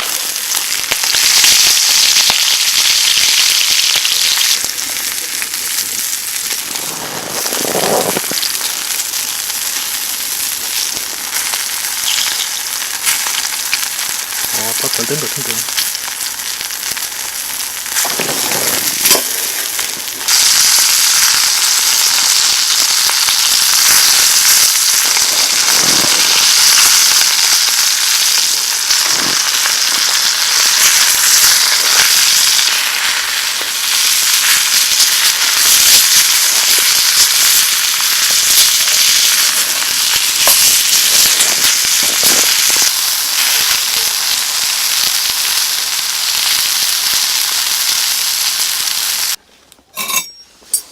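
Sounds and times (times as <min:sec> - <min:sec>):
fire pops and crackles: 0:00.0 - 0:49.4
steak sizzling over fire: 0:00.0 - 0:49.4, 0:50.0 - 0:50.3.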